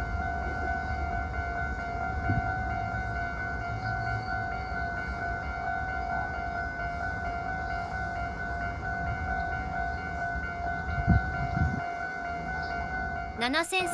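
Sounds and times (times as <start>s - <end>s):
electric train rumbling: 0.0s - 13.9s.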